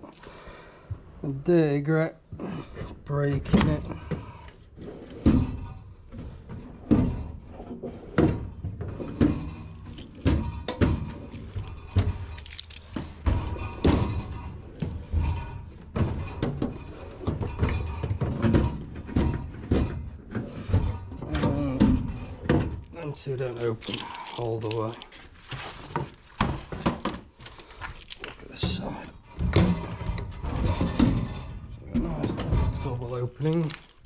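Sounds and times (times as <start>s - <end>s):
metal drawers opening and shutting: 2.8s - 34.0s.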